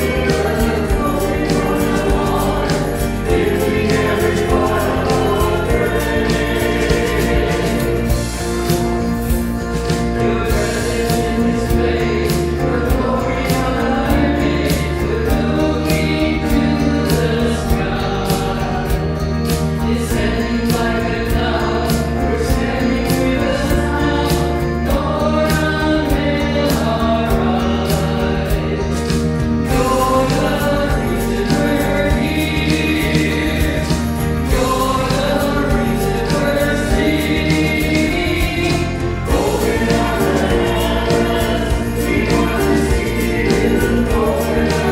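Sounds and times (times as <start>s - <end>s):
keyboard backing track: 0.0s - 44.9s
men and women singing in harmony: 0.0s - 44.9s.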